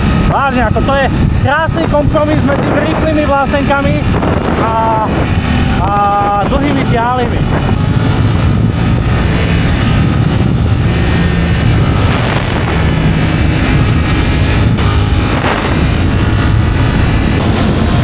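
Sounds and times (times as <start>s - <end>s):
motorcycle engine cruising: 0.0s - 18.0s
wind noise on microphone: 0.0s - 18.0s.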